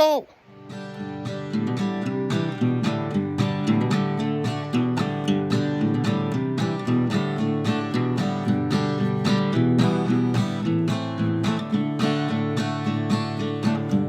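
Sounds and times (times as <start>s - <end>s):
strummed acoustic guitar: 0.3s - 14.0s.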